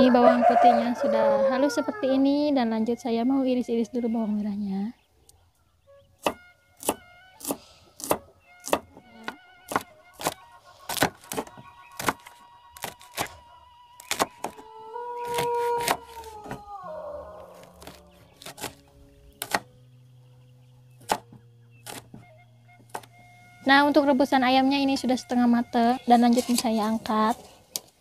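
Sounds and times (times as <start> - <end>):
soft background music: 0.0 - 28.0.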